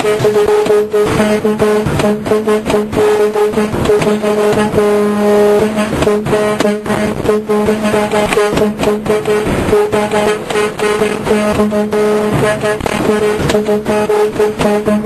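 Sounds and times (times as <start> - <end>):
truck air horn: 0.0 - 15.0.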